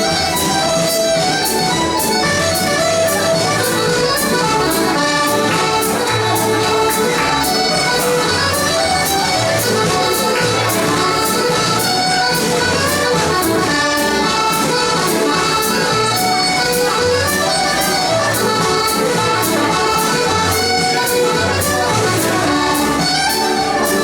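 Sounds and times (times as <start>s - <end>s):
accordion-led dance band music: 0.0s - 24.0s.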